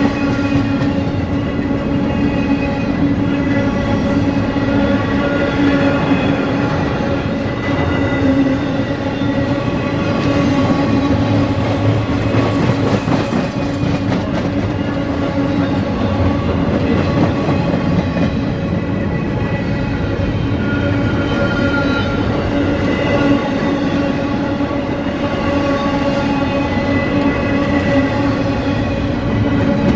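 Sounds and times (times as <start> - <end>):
ringing whine from wheels: 0.0 - 12.8, 13.4 - 29.9
train wheels rumbling on rails: 0.0 - 29.9.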